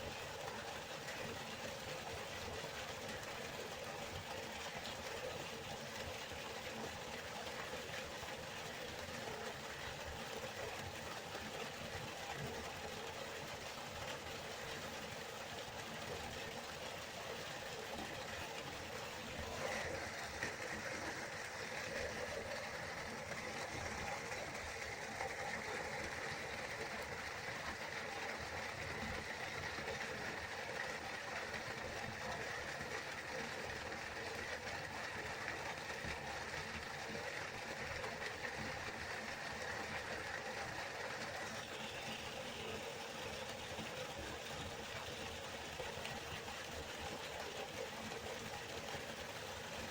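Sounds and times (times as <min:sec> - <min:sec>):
river water flowing: 0:00.0 - 0:49.9.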